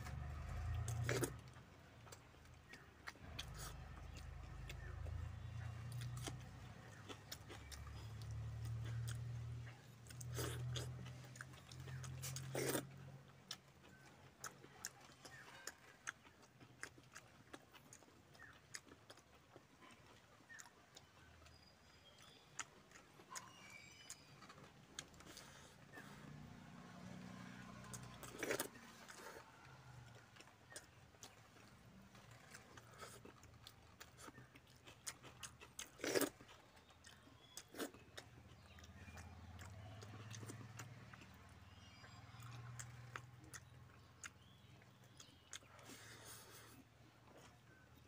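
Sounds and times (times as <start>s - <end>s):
chewing with wet mouth clicks: 0.0s - 48.0s.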